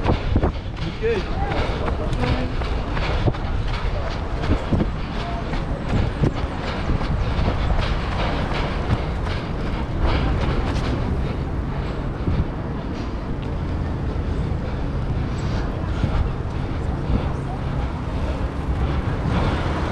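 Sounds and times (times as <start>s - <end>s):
street traffic: 0.0s - 19.9s
wind: 0.0s - 19.9s.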